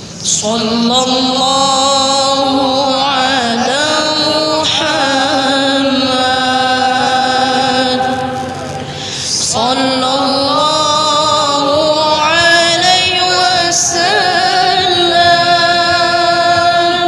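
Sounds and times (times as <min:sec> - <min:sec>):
solo voice singing devotional song: 0:00.1 - 0:17.0.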